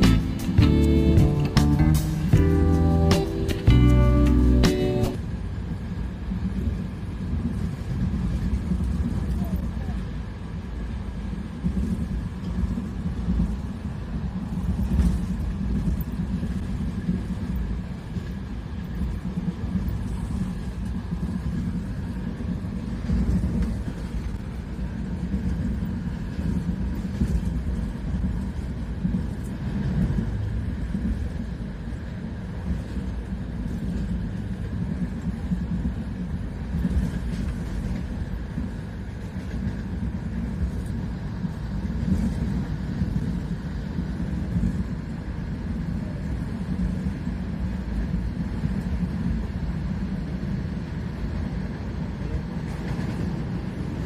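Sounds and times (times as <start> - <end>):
train carriage rumbling on track: 0.0 - 54.0.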